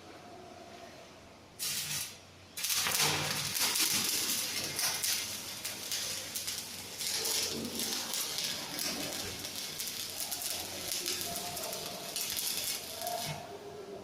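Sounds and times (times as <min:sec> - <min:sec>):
electric arc welding crackle: 0:01.6 - 0:13.6.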